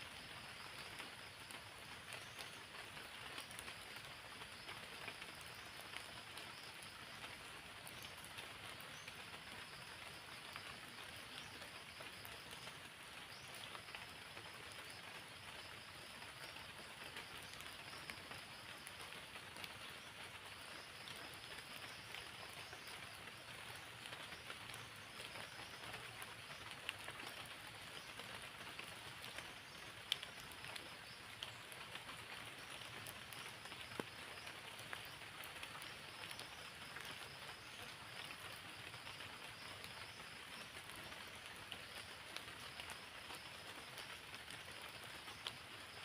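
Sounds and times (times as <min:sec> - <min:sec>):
steady rain falling: 0:00.0 - 0:46.0.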